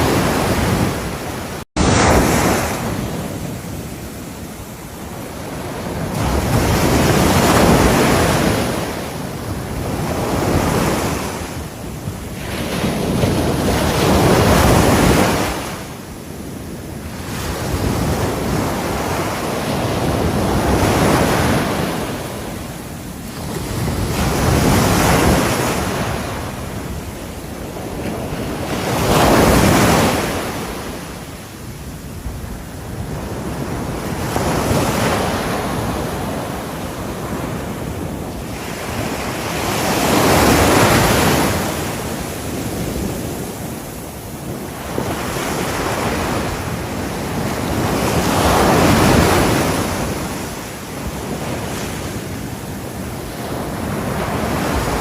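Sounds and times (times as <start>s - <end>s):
ocean waves breaking on shore: 0.0s - 55.0s
wind on microphone: 0.0s - 55.0s.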